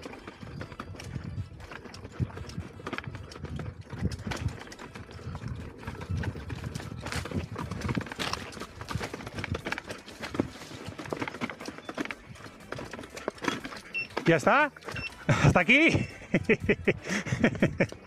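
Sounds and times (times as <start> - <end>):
clattering knocks and thumps: 2.2 - 18.0.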